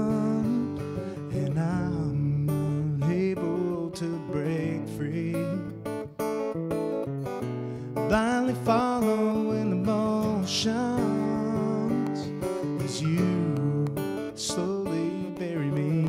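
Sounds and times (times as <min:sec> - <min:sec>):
acoustic guitar strumming and picking: 0:00.0 - 0:16.0.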